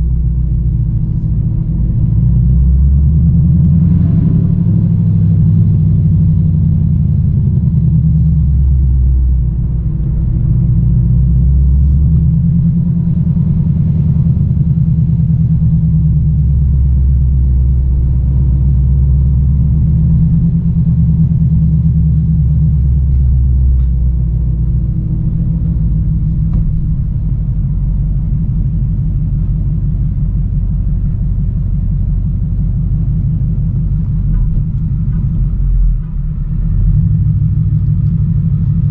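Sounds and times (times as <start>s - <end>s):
car engine burble: 0.0s - 38.9s.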